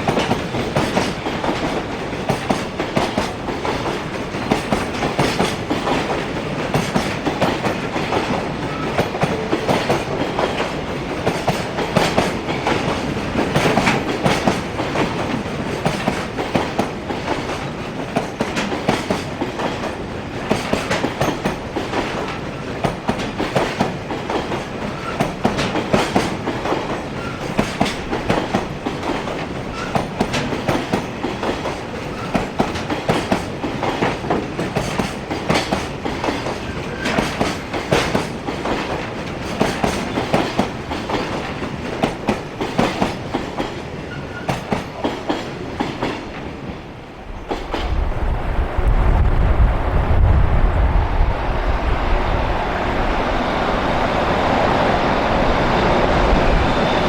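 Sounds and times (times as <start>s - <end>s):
train wheels clattering over rail joints: 0.0s - 48.0s.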